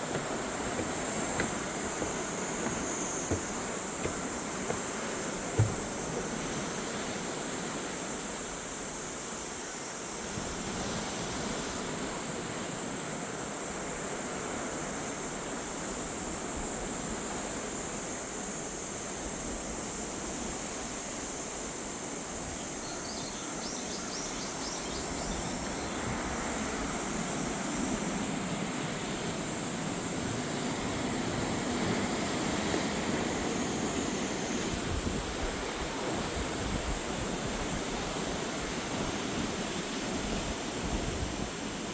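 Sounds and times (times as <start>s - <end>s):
surf washing against shore: 0.0s - 22.2s, 25.6s - 41.9s
wind: 0.0s - 41.9s.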